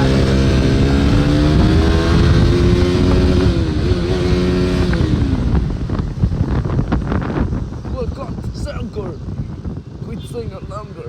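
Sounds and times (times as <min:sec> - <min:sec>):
motorcycle engine running: 0:00.0 - 0:10.0
wind rumble: 0:00.0 - 0:11.0.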